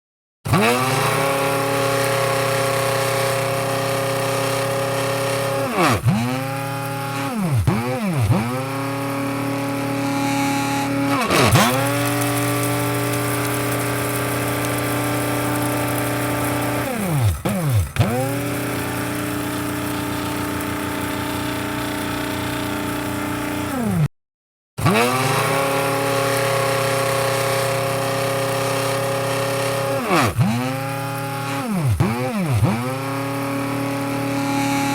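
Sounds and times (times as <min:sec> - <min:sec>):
coffee grinder motor whining: 0:00.5 - 0:24.1, 0:24.8 - 0:34.9.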